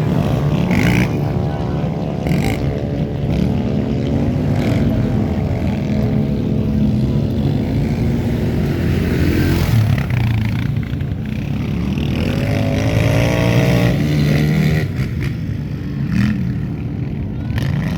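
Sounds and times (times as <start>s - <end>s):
racing engines revving: 0.0s - 17.9s.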